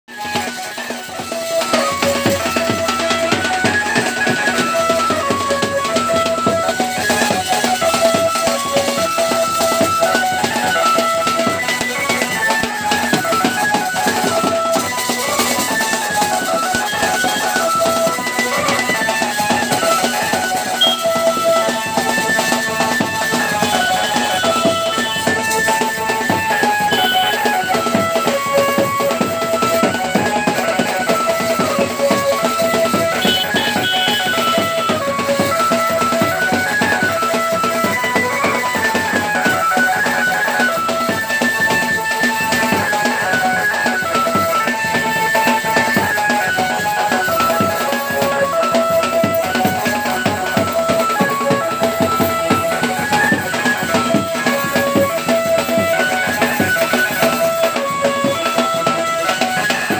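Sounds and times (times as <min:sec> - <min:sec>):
fast dance music with drums: 0:00.1 - 0:59.9.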